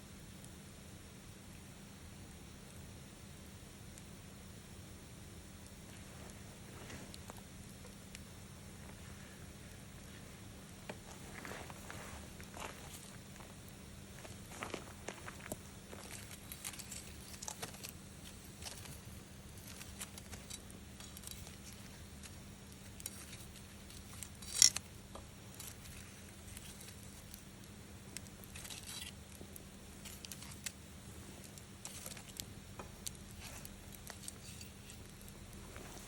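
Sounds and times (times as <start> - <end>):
wood fire crackling: 0.1 - 36.0.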